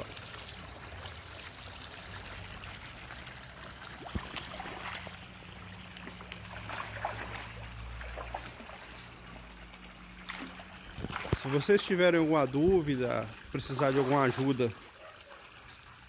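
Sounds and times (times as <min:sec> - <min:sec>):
fish splashing at the surface: 0:00.0 - 0:12.6, 0:13.2 - 0:14.9
water trickling: 0:00.0 - 0:16.0.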